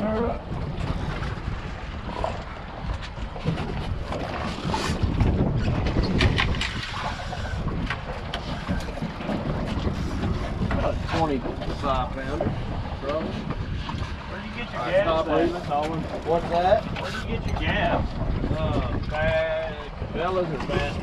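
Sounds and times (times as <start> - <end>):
water slapping against hull: 0.0 - 21.0
wind buffeting microphone: 0.0 - 21.0.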